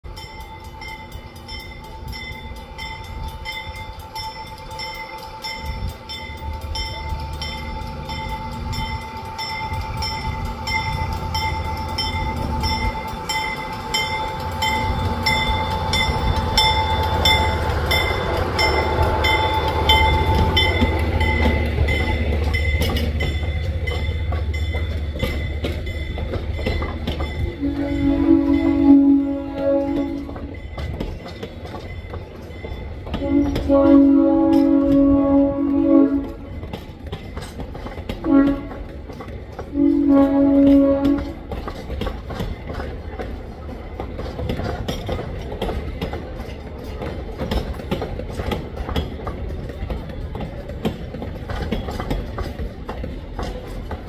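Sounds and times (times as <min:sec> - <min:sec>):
crossing warning bell ringing: 0:00.0 - 0:46.1
diesel locomotive engine rumble: 0:00.0 - 0:54.0
train coaches rolling past: 0:00.0 - 0:54.0.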